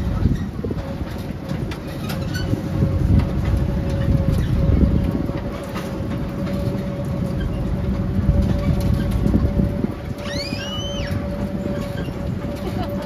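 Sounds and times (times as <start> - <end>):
miniature train rumbling: 0.0 - 13.0.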